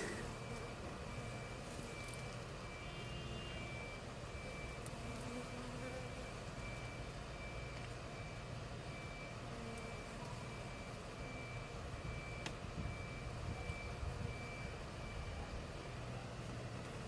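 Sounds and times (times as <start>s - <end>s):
background traffic: 0.0s - 17.0s
honeybees humming: 0.0s - 17.0s
vehicle reversing alarm beeping: 0.0s - 17.0s.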